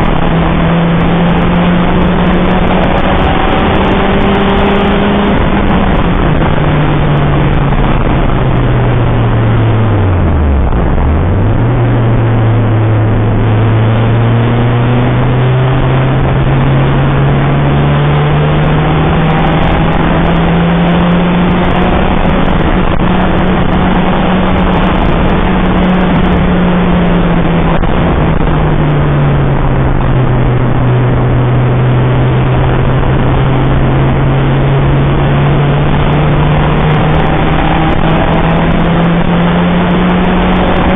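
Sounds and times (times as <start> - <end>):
car engine running at speed: 0.0 - 40.9
wind and wet road noise: 0.0 - 40.9.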